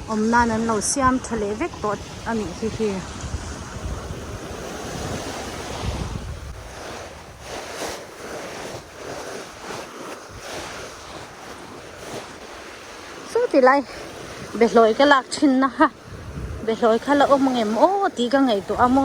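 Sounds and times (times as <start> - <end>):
sea waves washing ashore: 0.0 - 19.0
wind buffeting microphone: 0.0 - 19.0.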